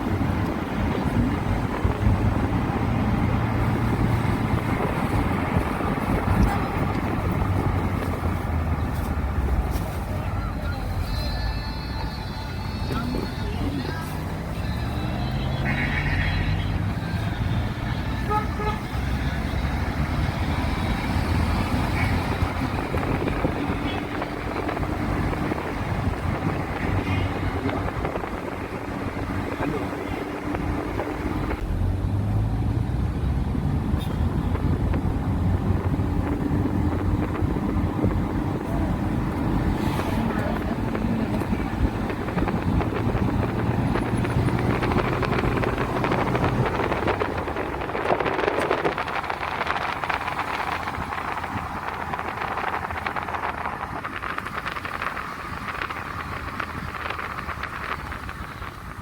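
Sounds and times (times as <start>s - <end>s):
wind on microphone: 0.0s - 9.8s, 16.4s - 31.8s, 33.0s - 59.0s
road traffic rumble: 0.0s - 59.0s
vehicle engine hum: 0.0s - 59.0s.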